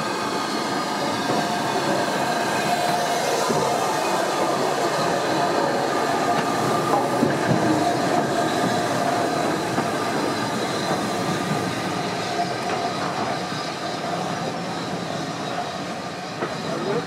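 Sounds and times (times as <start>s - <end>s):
train wheels squealing on rails: 0.0s - 17.0s.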